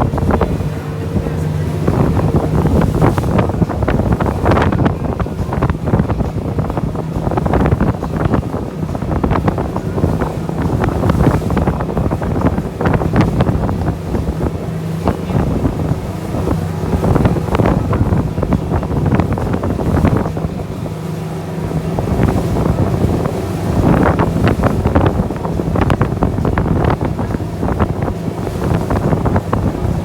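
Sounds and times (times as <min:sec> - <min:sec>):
boat engine running: 0:00.0 - 0:30.0
rush of water: 0:00.0 - 0:30.0
wind buffeting microphone: 0:00.0 - 0:30.0.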